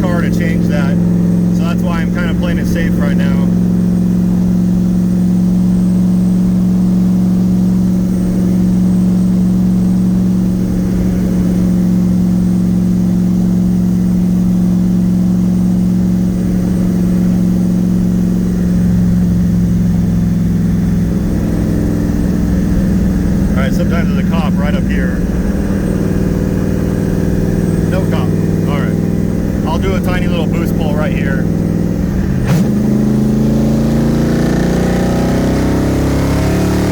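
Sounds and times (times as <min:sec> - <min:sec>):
car engine drone: 0:00.0 - 0:36.9.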